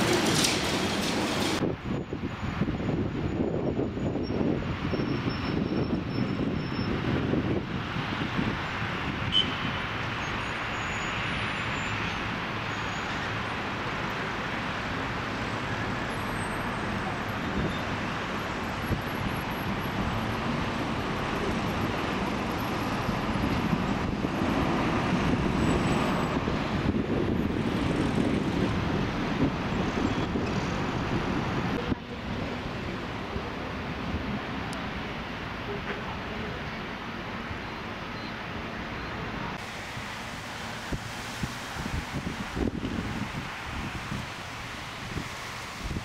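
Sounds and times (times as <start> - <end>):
road traffic rushing hum: 0.0 - 46.0.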